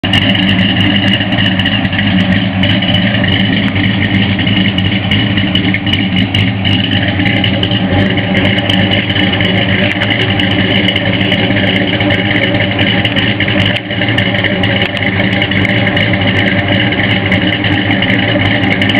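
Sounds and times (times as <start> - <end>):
engine idling: 0.0 - 18.9.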